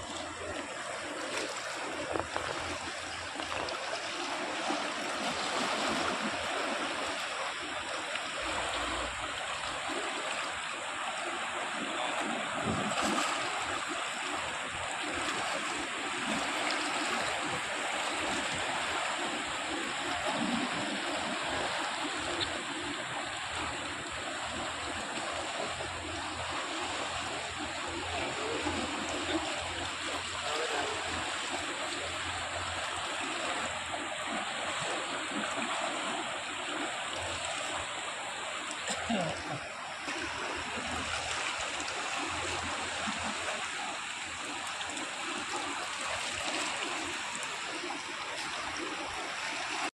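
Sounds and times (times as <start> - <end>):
river rushing: 0.0 - 49.9.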